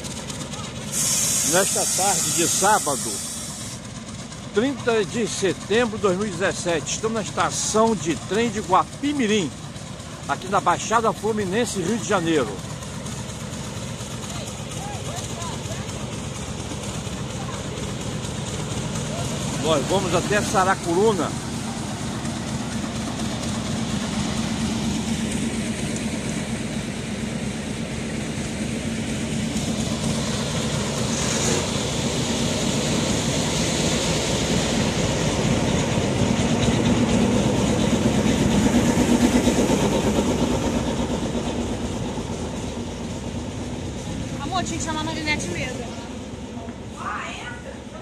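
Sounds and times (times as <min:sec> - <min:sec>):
diesel locomotive engine idling: 0:00.0 - 0:48.0.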